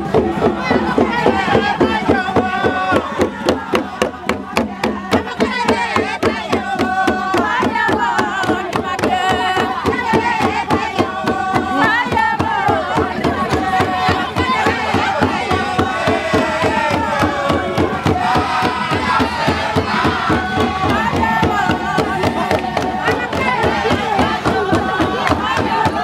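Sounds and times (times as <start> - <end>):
hand drums beating fast rhythm: 0.0 - 26.0
people singing and chanting: 0.0 - 26.0.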